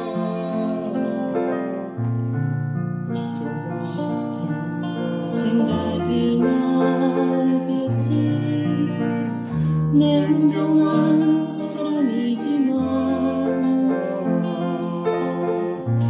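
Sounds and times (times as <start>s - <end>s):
slow piano ballad with backing track: 0.0s - 16.0s.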